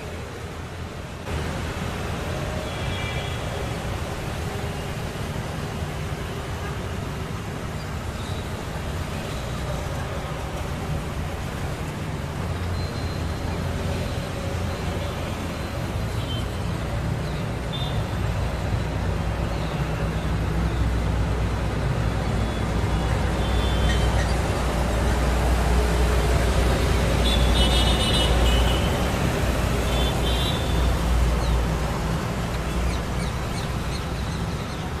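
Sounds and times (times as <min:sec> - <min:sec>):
city traffic rumble: 0:00.0 - 0:35.0.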